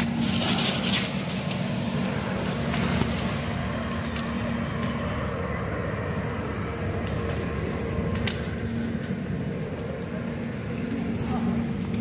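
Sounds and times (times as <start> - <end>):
fire crackling pops: 0.0 - 5.5, 6.8 - 12.0
fire rumbling: 0.0 - 12.0
low hum: 0.0 - 12.0.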